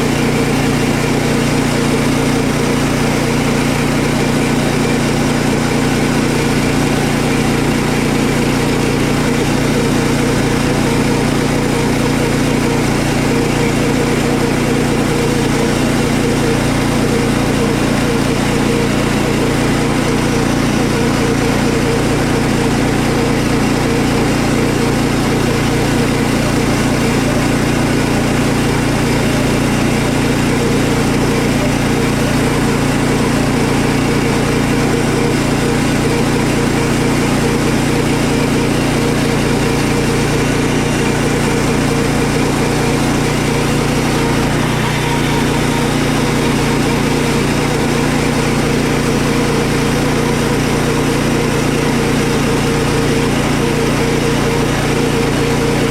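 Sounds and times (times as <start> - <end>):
saw cutting through log: 0.0 - 55.9
small sawmill engine running: 0.0 - 55.9.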